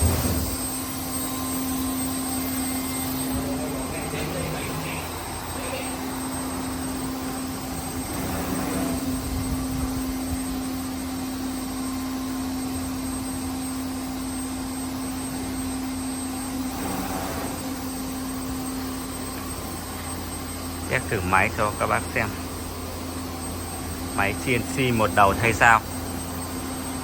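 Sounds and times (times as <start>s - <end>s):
router spindle whine: 0.0s - 27.0s.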